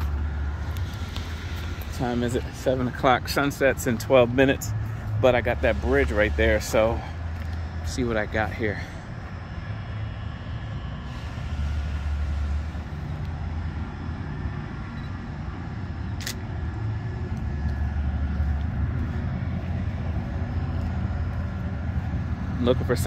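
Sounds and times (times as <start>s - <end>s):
highway traffic rumble: 0.0s - 23.0s.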